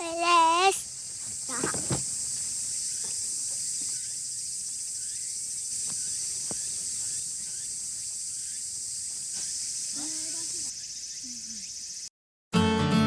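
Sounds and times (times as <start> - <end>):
insects chirping: 0.0 - 12.1.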